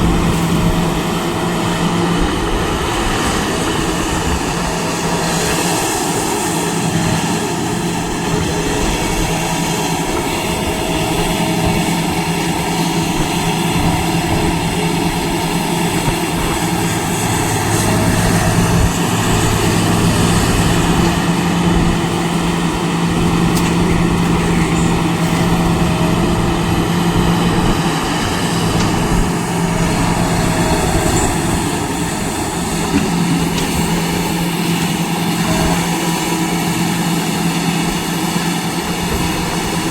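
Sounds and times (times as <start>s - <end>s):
diesel engine running under work: 0.0s - 39.9s.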